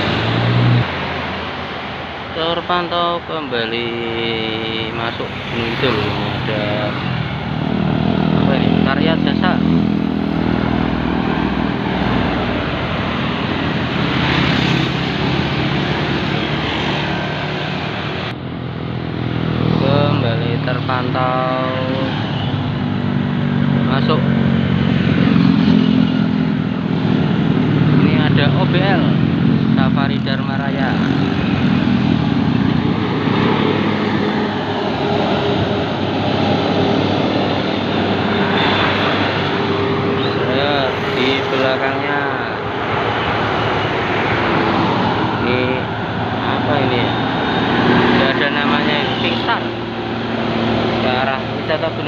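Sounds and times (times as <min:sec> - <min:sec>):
bus diesel engine passing by: 0:00.0 - 0:52.0.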